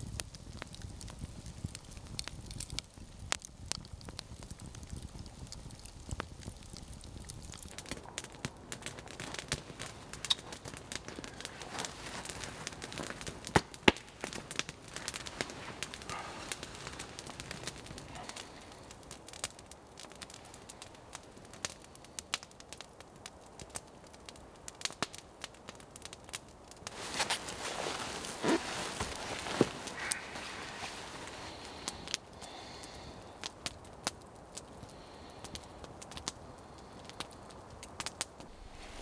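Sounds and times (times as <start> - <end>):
campfire crackling: 0.0 - 39.0
loud fire pops: 0.0 - 39.0.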